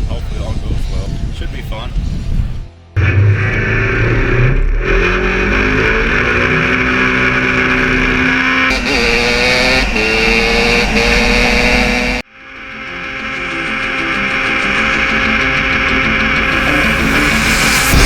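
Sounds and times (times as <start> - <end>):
vehicle engine accelerating: 2.9 - 18.0.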